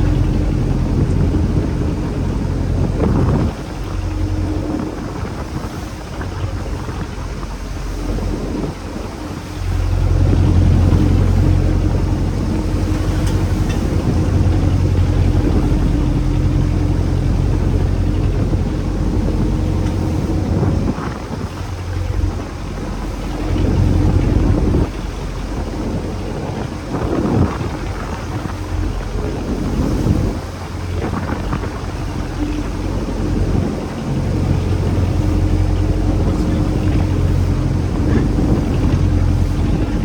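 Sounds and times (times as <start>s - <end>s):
boat engine running: 0.0s - 40.0s
wind buffeting microphone: 0.0s - 40.0s.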